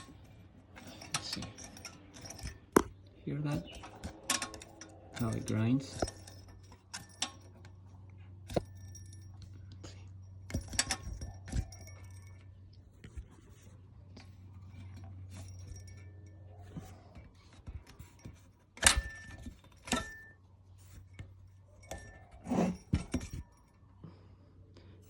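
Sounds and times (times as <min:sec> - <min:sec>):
turbocharger shaft grinding: 0:00.0 - 0:20.4.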